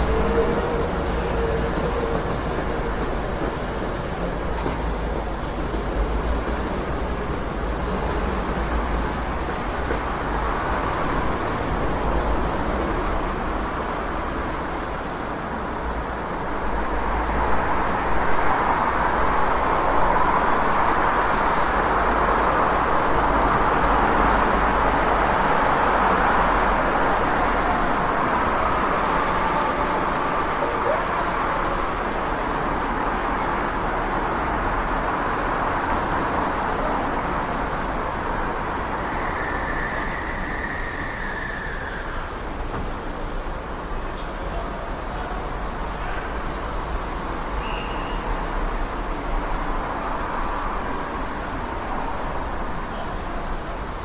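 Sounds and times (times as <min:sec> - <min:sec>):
passing vehicles: 0:00.0 - 0:54.0.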